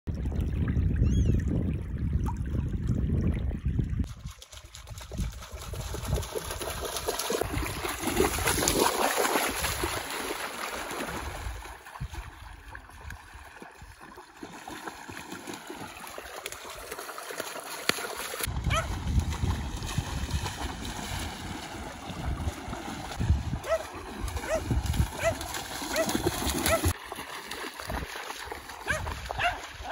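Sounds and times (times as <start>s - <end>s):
dog splashing through water: 4.1s - 29.9s.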